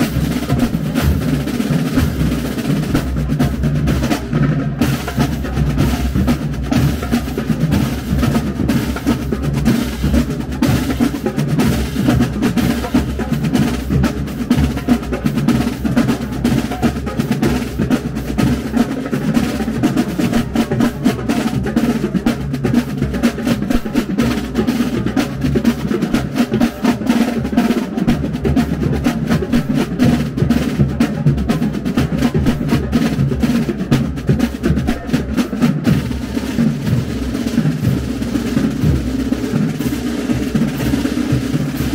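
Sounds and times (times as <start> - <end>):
bass drums: 0.0 - 41.9
snare drum rolls: 0.0 - 41.9
tenor drums: 0.0 - 41.9.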